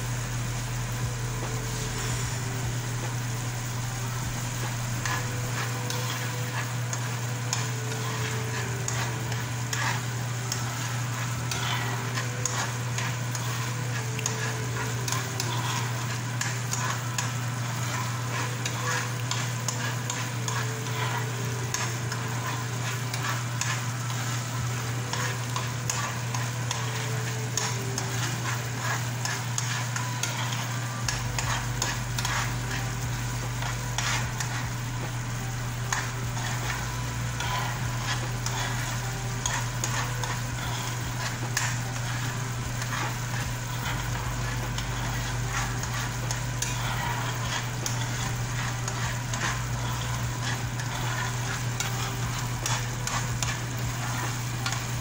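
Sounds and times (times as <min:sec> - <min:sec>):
caramel bubbling and sizzling: 0:00.0 - 0:55.0
steady low hum: 0:00.0 - 0:55.0
metal spoon scraping pan: 0:03.8 - 0:55.0.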